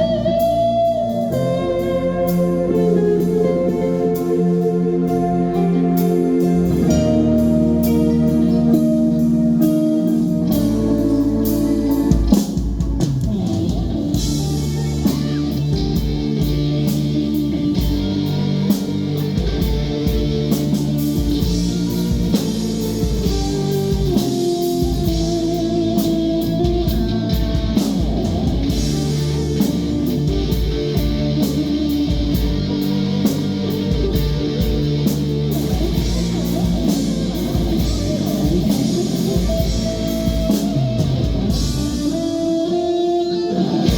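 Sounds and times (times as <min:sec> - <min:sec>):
bass guitar: 0:00.0 - 0:43.9
drum kit beat: 0:00.0 - 0:43.9
electric guitar: 0:00.0 - 0:43.9.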